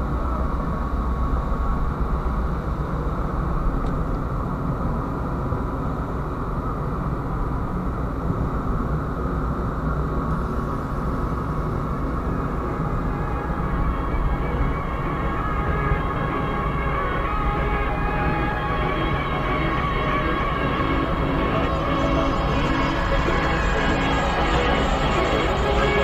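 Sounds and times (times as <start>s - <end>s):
faint steady hum: 0.0s - 26.0s
ship low rumble: 0.0s - 26.0s.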